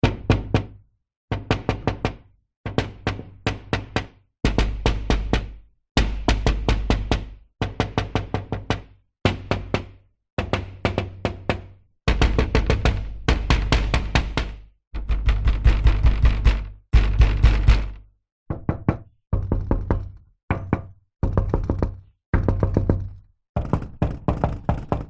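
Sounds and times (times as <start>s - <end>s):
knocking on a door: 0.0s - 25.0s.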